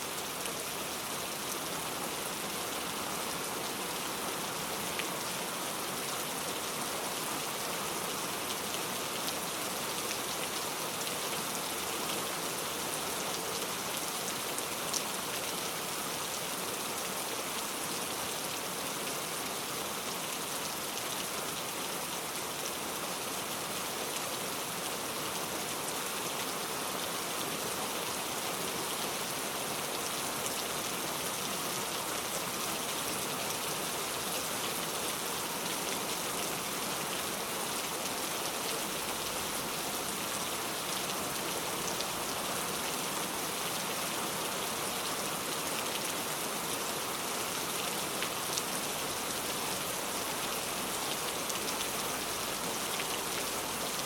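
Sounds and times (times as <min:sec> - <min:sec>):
heavy rain on road: 0:00.1 - 0:54.0.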